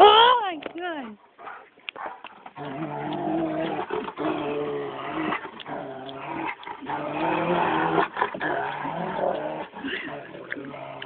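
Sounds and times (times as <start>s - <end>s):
large dog low drawn-out vocalizing: 1.4s - 11.0s.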